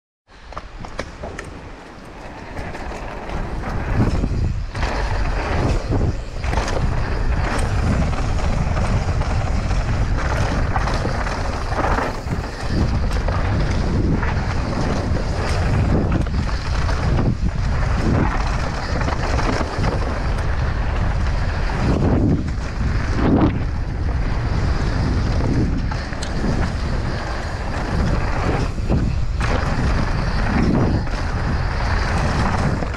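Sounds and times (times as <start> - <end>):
tyres rolling on dirt: 0.4 - 32.9
wind buffeting microphone: 0.4 - 32.9
bike rattling and knocking: 0.6 - 32.9.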